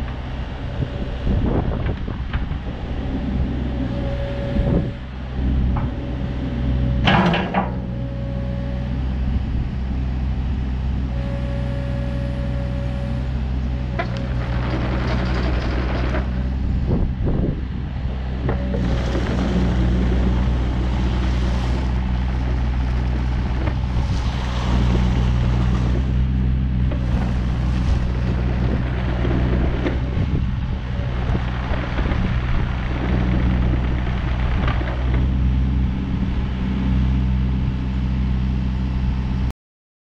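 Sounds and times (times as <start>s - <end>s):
excavator diesel engine running: 0.0s - 39.4s.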